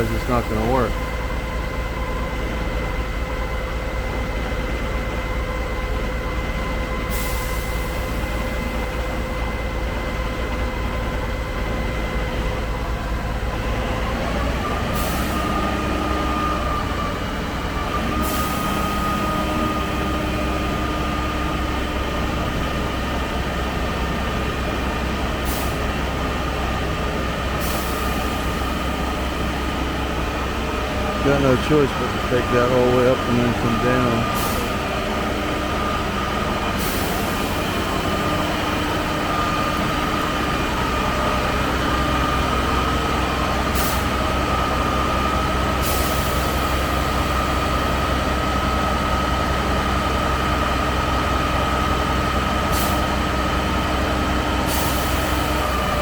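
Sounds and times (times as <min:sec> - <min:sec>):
diesel engine and hydraulics whine: 0:00.0 - 0:56.0.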